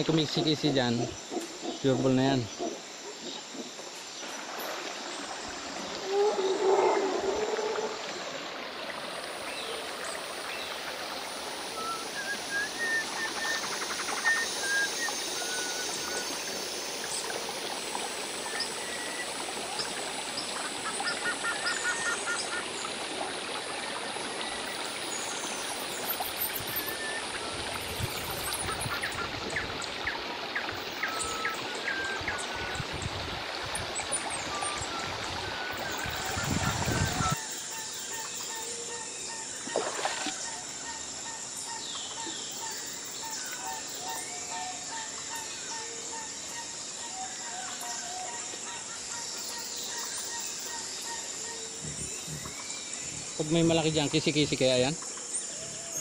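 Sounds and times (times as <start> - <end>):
stream running over stones: 2.1 - 38.7, 39.5 - 45.7, 49.3 - 56.0.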